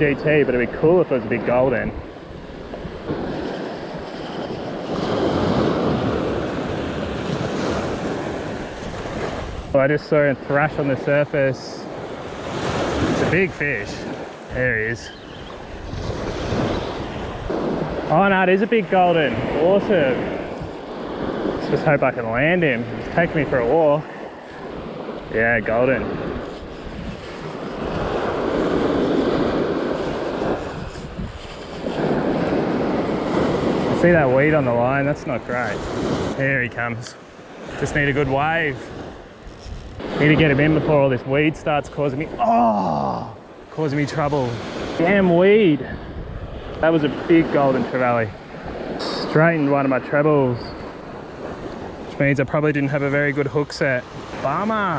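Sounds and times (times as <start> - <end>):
wind on microphone: 0.0 - 11.0, 11.8 - 42.6, 43.2 - 52.4
small waves washing on beach: 0.0 - 54.9.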